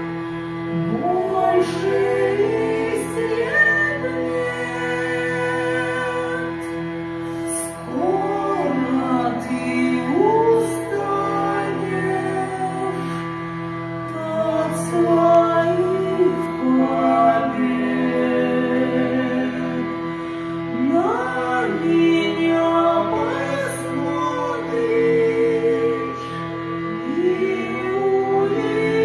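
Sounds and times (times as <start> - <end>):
hurdy-gurdy playing: 0.0 - 29.0
person singing: 0.7 - 29.0.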